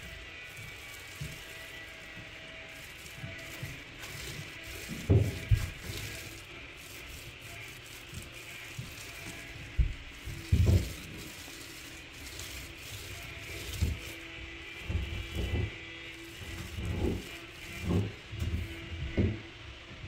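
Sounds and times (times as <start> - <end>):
paint roller swishing: 0.0 - 19.4.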